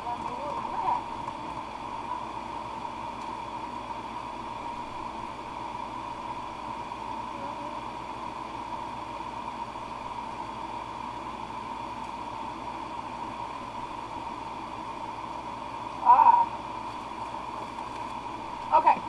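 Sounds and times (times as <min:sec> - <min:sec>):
electric fans whooshing: 0:00.0 - 0:19.0.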